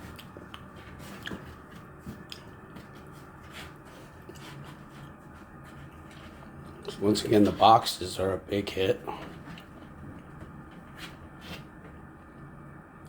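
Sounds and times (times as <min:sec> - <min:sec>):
kittens scratching and bumping boxes: 0:00.0 - 0:07.9, 0:09.1 - 0:12.1
low room hum: 0:00.0 - 0:13.0.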